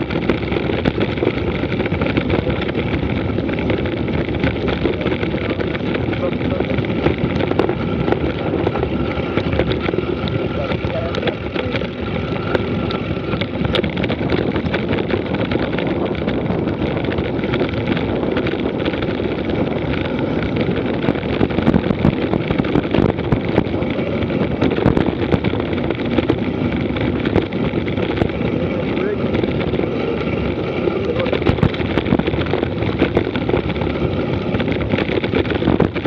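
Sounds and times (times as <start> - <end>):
bike rattling clicks: 0.0 - 36.0
wind rushing over microphone: 0.0 - 36.0.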